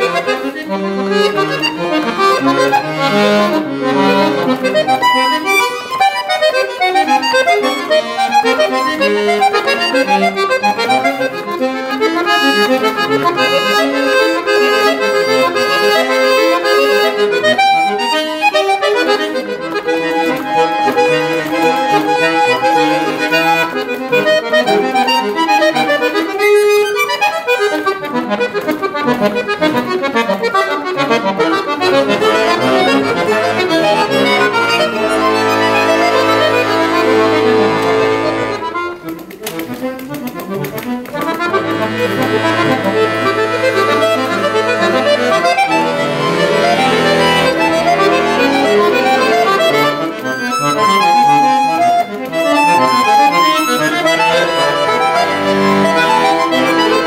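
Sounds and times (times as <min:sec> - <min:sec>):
piano accordion playing classical piece: 0:00.0 - 0:57.0.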